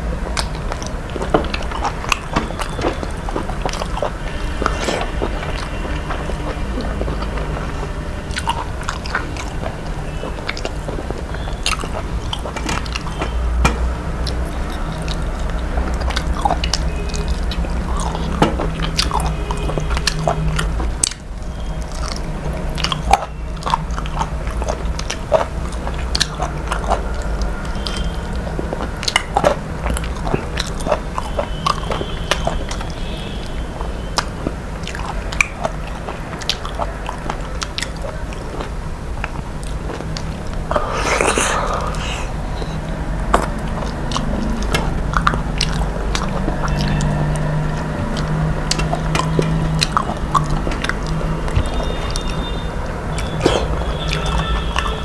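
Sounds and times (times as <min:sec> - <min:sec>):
person chewing and biting: 0:00.0 - 0:55.0.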